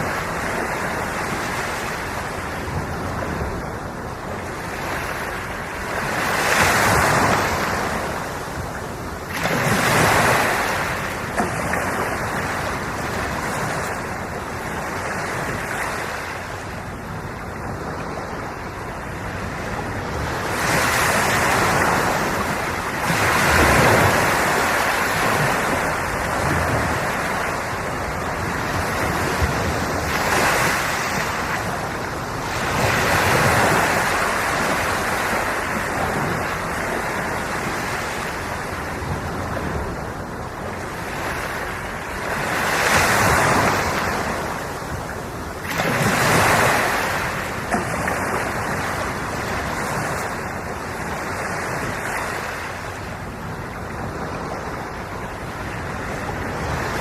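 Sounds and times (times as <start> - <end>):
sea waves washing in: 0.0 - 57.0.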